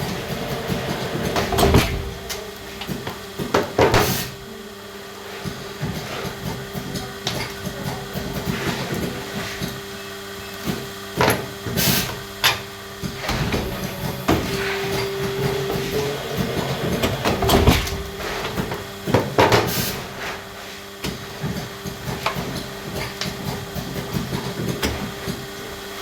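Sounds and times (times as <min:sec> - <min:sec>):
machinery humming: 0:00.0 - 0:24.6.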